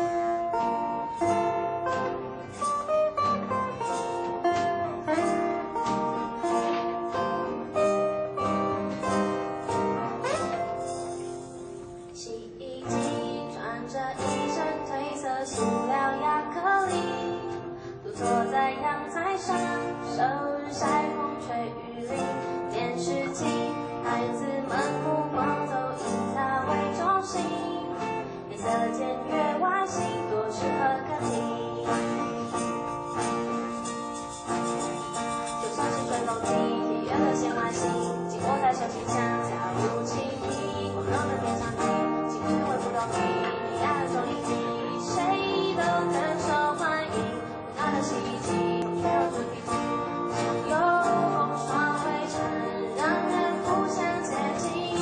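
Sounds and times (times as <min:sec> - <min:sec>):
woman singing: 0:00.0 - 0:11.4, 0:12.0 - 0:55.0
cajon beat: 0:00.0 - 0:12.2, 0:12.9 - 0:55.0
acoustic guitars strummed: 0:00.0 - 0:55.0
shaker: 0:01.2 - 0:55.0.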